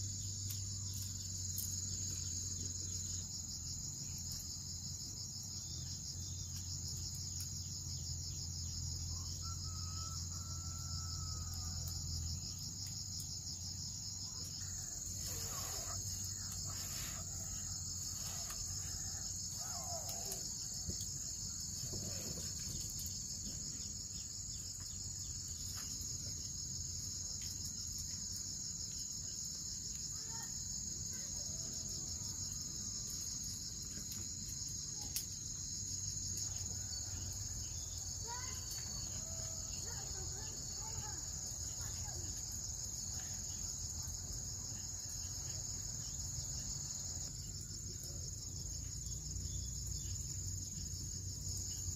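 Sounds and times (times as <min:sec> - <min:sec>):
high pulsing insect chorus: 0:00.0 - 0:51.9.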